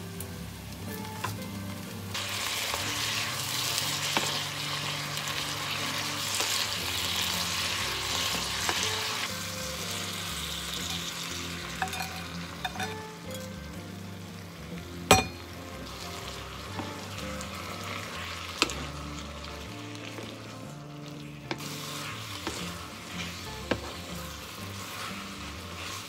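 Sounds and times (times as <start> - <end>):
food sizzling in a frying pan: 0.0 - 26.0
soft background music: 0.0 - 26.0.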